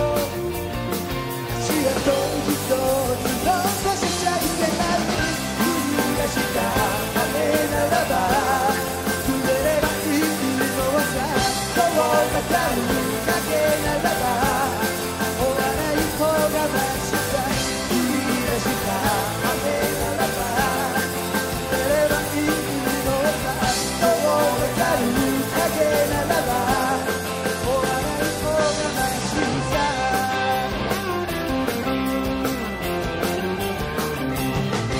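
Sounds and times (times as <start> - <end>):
lead vocalist singing: 0.0 - 0.6, 1.5 - 31.2
rock band playing: 0.0 - 34.9.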